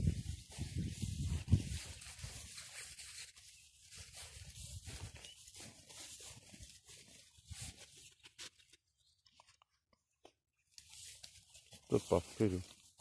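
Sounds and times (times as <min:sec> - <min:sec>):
footsteps on grass: 0:00.0 - 0:09.1, 0:10.6 - 0:13.0
rustling in grass: 0:00.0 - 0:09.2, 0:10.6 - 0:13.0.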